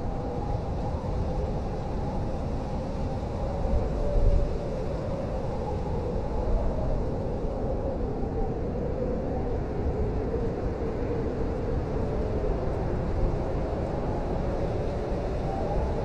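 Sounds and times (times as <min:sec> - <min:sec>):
moaning blizzard wind: 0:00.0 - 0:16.0.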